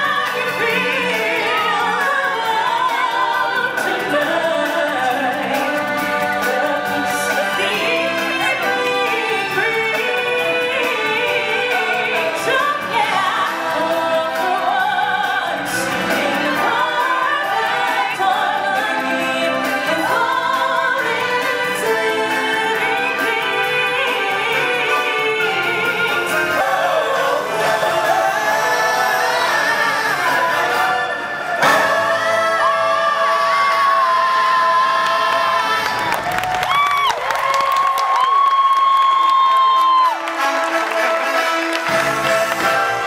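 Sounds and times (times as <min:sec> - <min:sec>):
choir and solo voices singing: 0:00.0 - 0:36.2.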